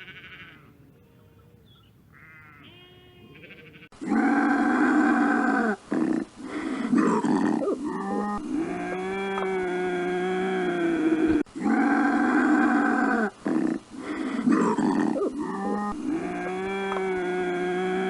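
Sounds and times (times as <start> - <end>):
faint animal calls: 0.0 - 18.0
loud drawn-out animal calls: 0.0 - 18.0.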